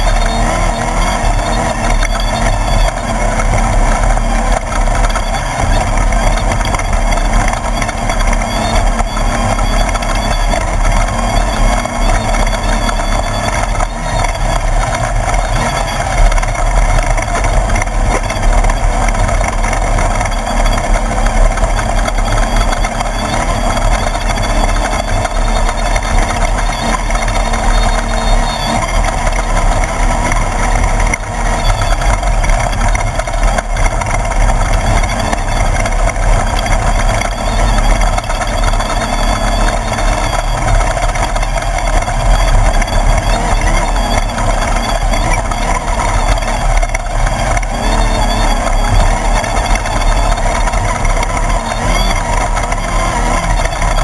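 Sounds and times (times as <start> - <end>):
race car engine running: 0.0 - 54.0.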